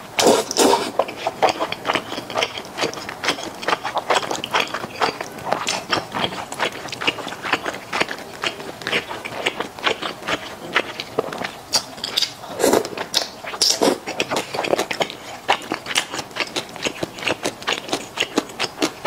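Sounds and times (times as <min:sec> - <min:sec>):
noodles slurped and chewed: 0:00.2 - 0:19.0.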